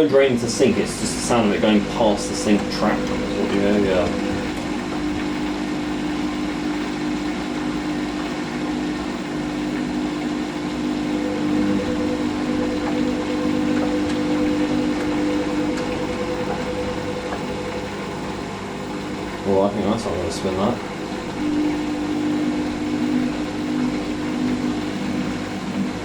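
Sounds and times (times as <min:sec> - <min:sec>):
higher hum: 0:00.0 - 0:26.0
washing machine drain pump humming: 0:00.0 - 0:26.0.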